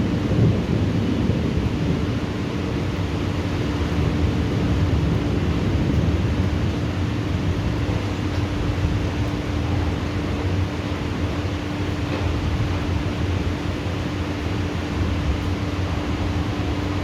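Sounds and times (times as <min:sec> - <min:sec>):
low thunder rumble: 0:00.0 - 0:17.0.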